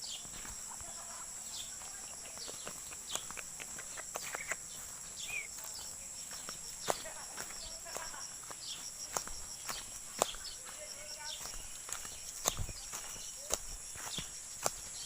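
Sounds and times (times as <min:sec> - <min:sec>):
bird chirps: 0:00.0 - 0:15.0
high-pitched insect drone: 0:00.0 - 0:15.0.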